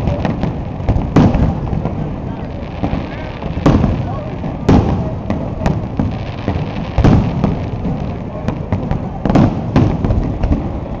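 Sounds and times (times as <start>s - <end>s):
firework shells bursting: 0.0s - 10.9s.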